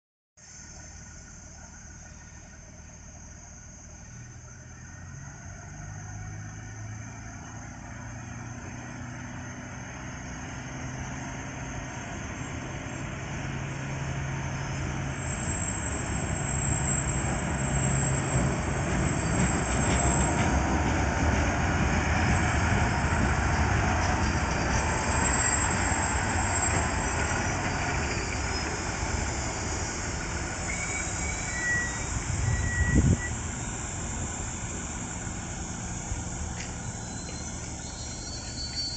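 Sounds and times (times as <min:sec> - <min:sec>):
rail car engine hum: 0:00.4 - 0:38.9
heavy rumble of wheels on rails: 0:00.5 - 0:38.9.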